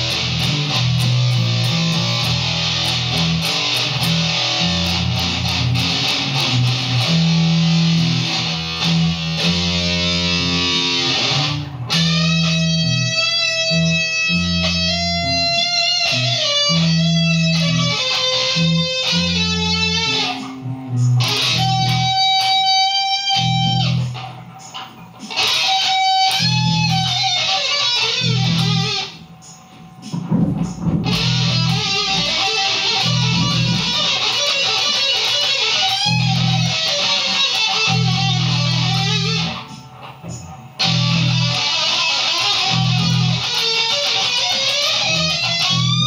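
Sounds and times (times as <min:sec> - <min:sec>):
electric guitar playing: 0:00.0 - 0:46.0.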